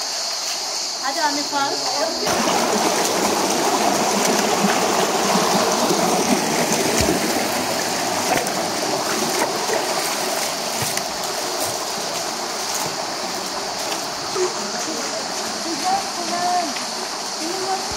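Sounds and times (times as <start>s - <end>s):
stream rushing over rocks: 0.2s - 17.9s.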